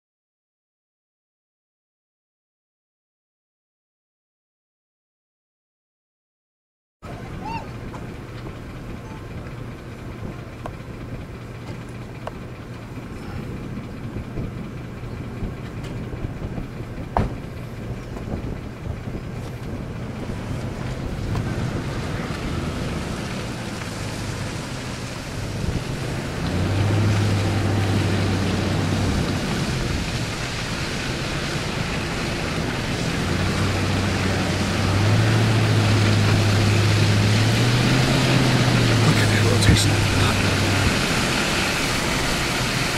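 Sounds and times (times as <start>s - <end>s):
low engine hum: 7.0s - 42.9s
road and wind noise: 7.0s - 42.9s.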